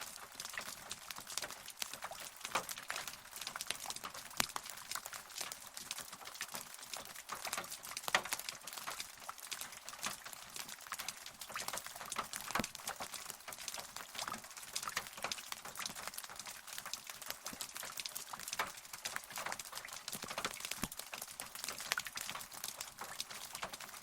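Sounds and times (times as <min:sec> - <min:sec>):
rain drops pattering: 0:00.0 - 0:24.0.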